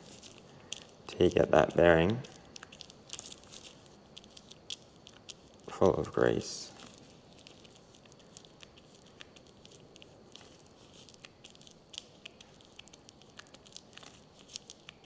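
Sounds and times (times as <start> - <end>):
sticky clicks and squelches of grease: 0.0 - 15.0.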